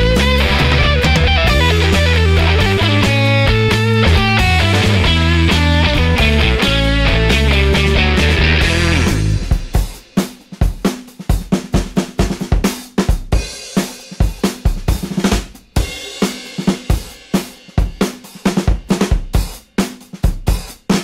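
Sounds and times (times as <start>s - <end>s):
drum kit playing driving beat: 0.0s - 21.0s.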